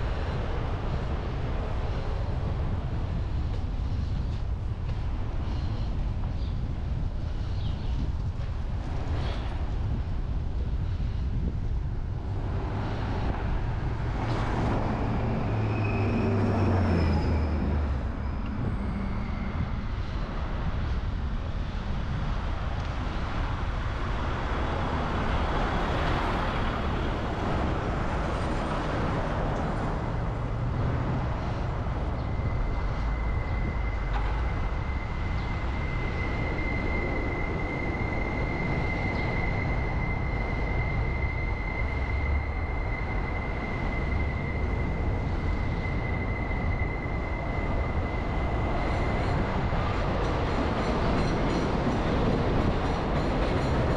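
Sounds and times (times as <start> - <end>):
traffic rumble and road noise: 0.0 - 53.9.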